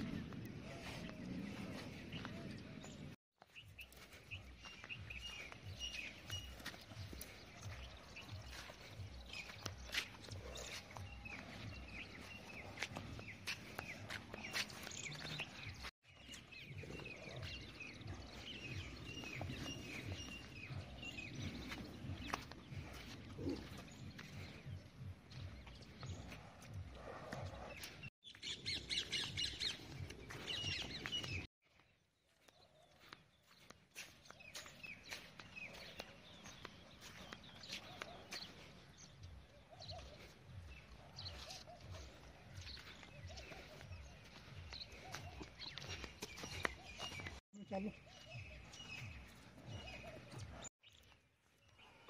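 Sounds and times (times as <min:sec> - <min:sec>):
birds chirping: 0:00.0 - 0:52.0
hooves kicking through sand: 0:00.0 - 0:52.0.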